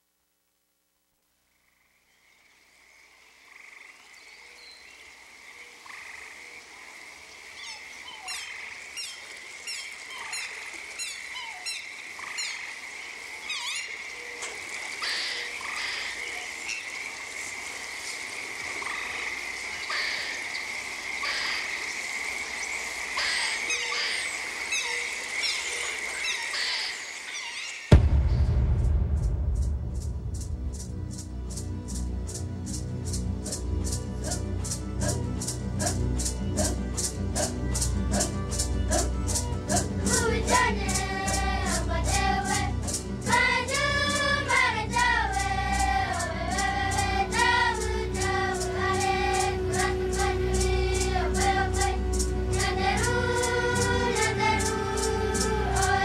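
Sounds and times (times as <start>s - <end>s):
frogs croaking: 1.4s - 27.9s, 30.7s - 56.0s.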